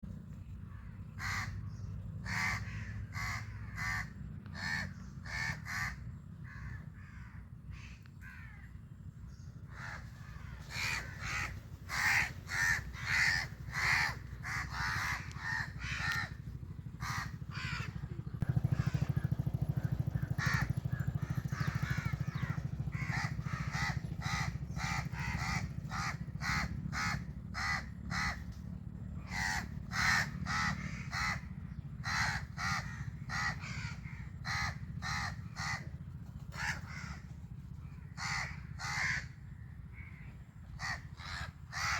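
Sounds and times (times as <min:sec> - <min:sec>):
steady low hum: 0:00.0 - 0:41.9
crows cawing: 0:00.7 - 0:08.8, 0:09.7 - 0:41.9.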